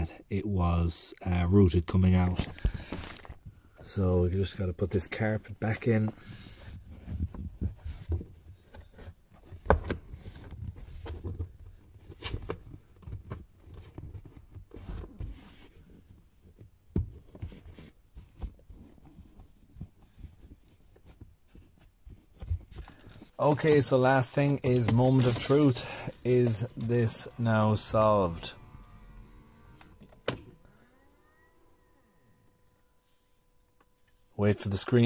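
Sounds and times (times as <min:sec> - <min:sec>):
carpet rustling: 0:02.2 - 0:30.7.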